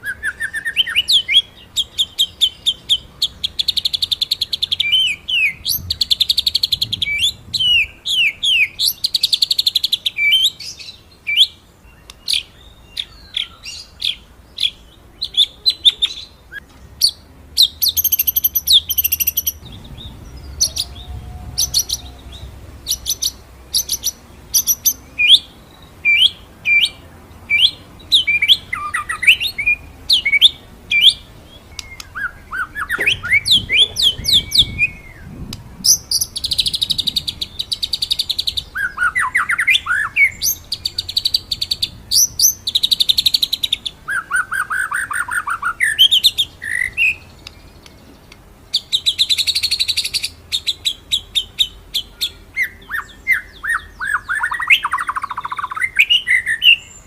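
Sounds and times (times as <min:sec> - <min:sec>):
songbird whistling and trilling: 0:00.0 - 0:47.9, 0:48.7 - 0:57.0.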